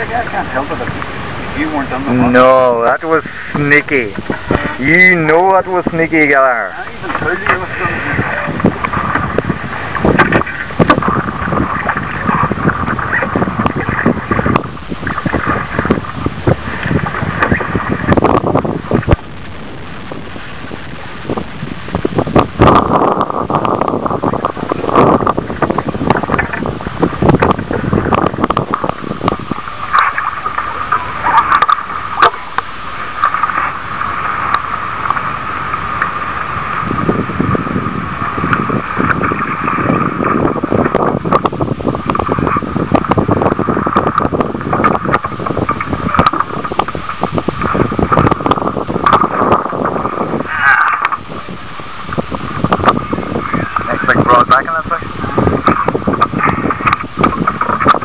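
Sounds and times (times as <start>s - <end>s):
lake water lapping: 0.0s - 58.0s
wind buffeting microphone: 0.0s - 58.0s.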